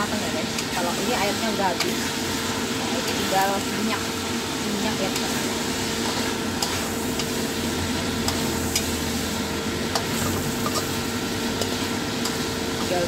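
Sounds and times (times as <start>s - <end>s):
liver sizzling in oil: 0.0s - 13.0s.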